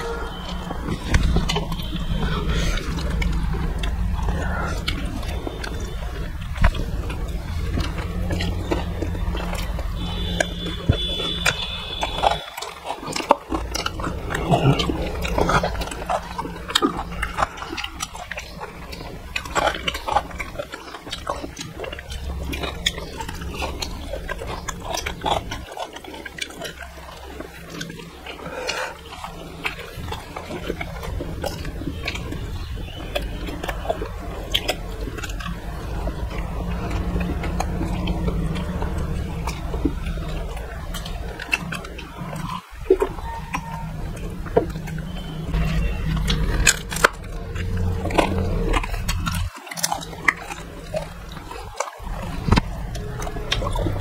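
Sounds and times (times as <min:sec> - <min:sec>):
steady low hum: 0:00.0 - 0:54.0
wet chewing and lip-smacking: 0:00.0 - 0:54.0.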